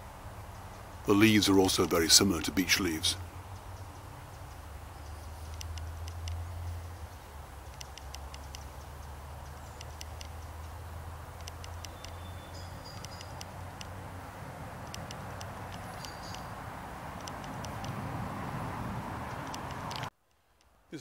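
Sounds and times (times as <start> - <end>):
sharp high ticks: 0.6 - 14.0, 14.8 - 16.6, 17.2 - 18.0, 19.3 - 20.8.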